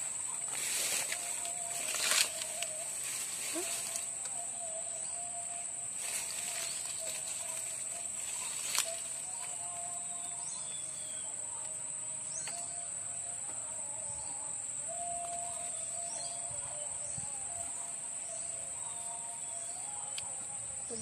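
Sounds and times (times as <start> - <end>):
birds chirping: 0.0 - 21.0
insects buzzing: 0.0 - 21.0
low wavering bird call: 0.0 - 21.0.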